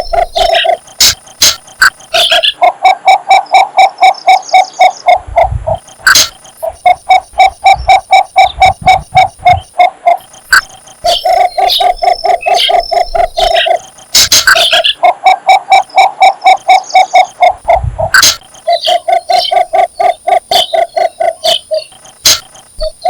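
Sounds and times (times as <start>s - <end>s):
bittern calling low repeated notes: 0.0s - 23.0s.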